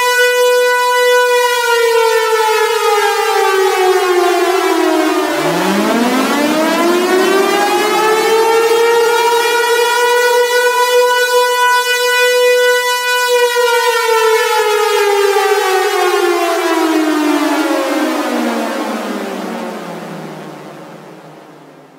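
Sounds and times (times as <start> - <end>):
air raid siren wailing: 0.0 - 21.9.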